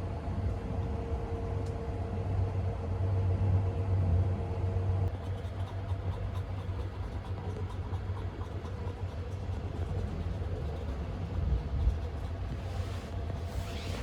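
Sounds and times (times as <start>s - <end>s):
train running low rumble: 0.0s - 14.0s.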